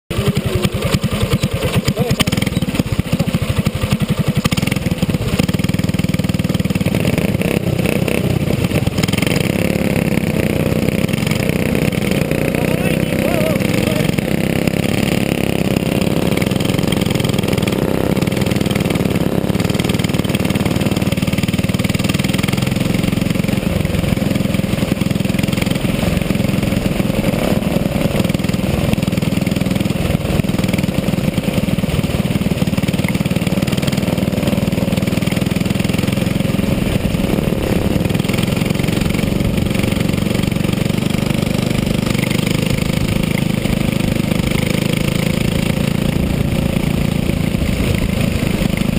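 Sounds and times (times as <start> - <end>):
kart engine revving: 0.1 - 48.9.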